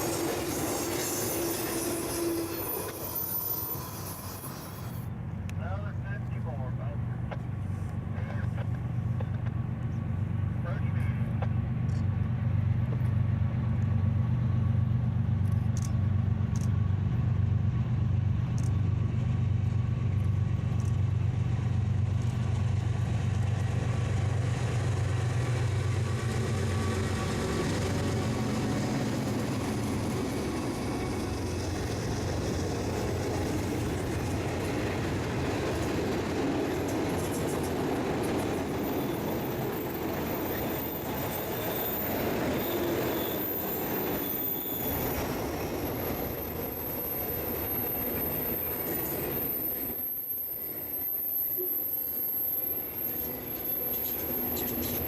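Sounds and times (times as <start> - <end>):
low train engine drone: 0.0 - 55.0
railcars rolling on rails: 0.0 - 55.0.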